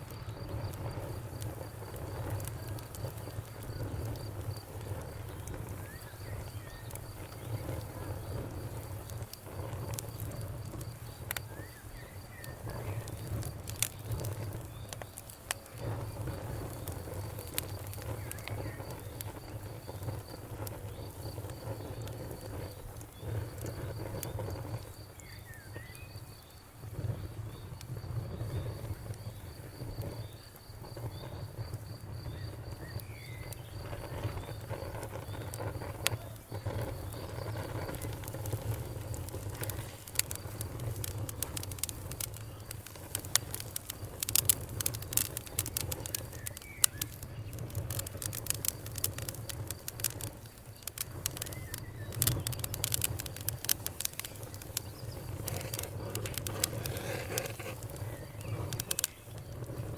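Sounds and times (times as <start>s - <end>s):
campfire crackling and popping: 0.0s - 59.9s
cricket chirping: 0.0s - 59.9s.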